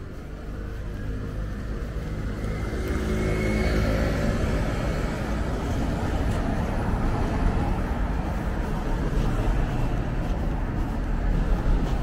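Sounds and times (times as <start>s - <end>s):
cars passing close: 0.0s - 12.0s.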